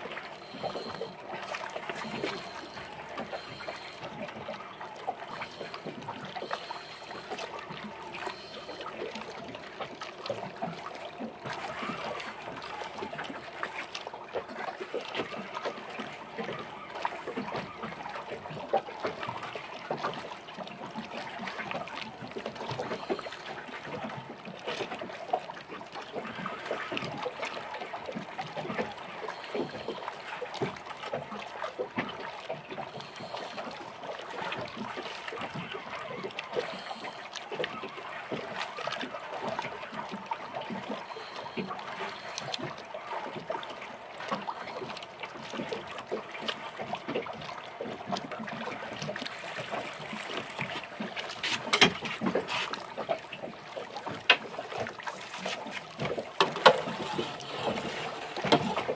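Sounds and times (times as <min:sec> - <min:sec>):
water lapping against boat hull: 0:00.0 - 0:58.9.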